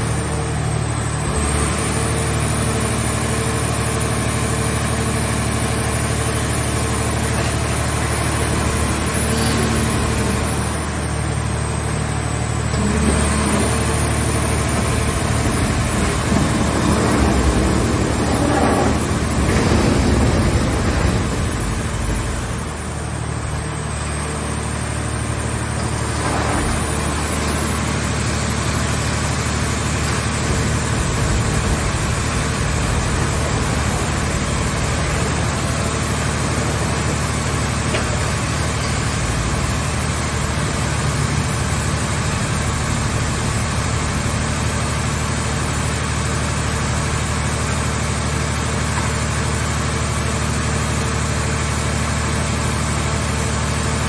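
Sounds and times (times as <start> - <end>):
hydraulic power unit drone: 0.0 - 54.0.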